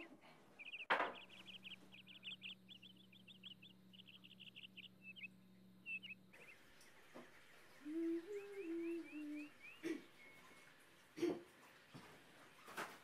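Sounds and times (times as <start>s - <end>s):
low steady hum: 0.0s - 12.2s
small birds chirping: 0.0s - 13.0s.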